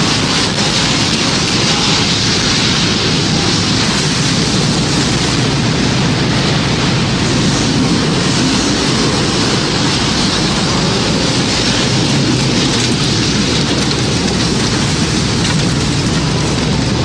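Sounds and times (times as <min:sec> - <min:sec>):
heavy rain: 0:00.0 - 0:17.0
tornado wind rushing: 0:00.0 - 0:17.0.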